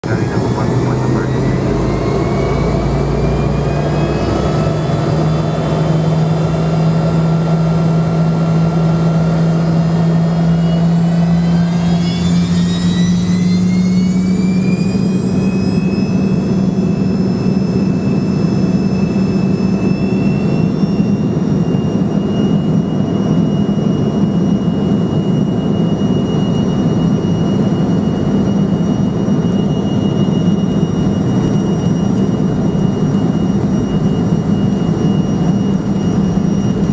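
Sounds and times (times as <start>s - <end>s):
jet engines spooling up: 0.0s - 36.9s.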